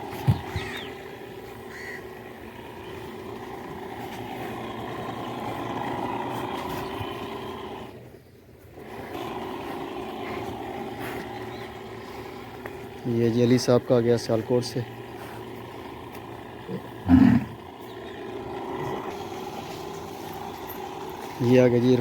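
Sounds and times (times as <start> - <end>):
power sprayer engine humming: 0.0 - 22.0.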